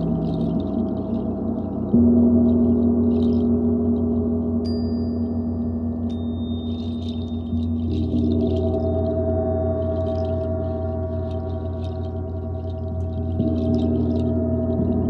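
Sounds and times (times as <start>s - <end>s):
deep gong tones: 0.0s - 15.0s
thin high ringing tones: 0.0s - 15.0s.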